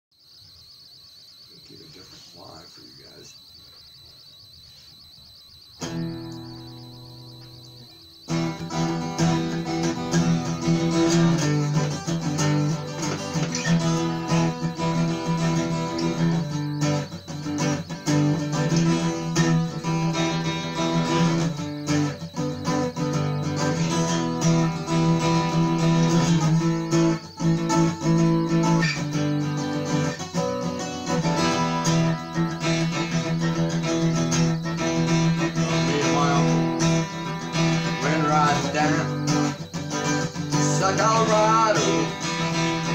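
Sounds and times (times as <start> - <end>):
acoustic guitar strumming chords: 5.8 - 42.9.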